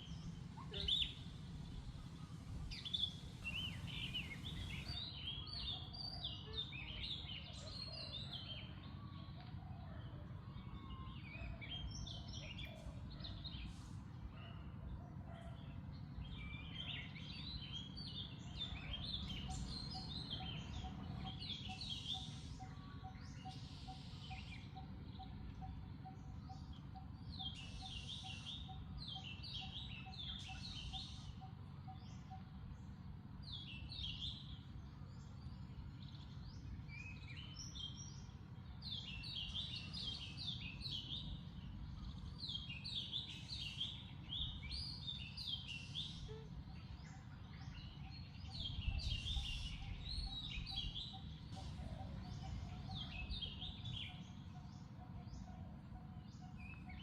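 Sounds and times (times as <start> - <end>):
low outdoor rumble: 0.0 - 57.0
small birds chirping: 0.0 - 57.0.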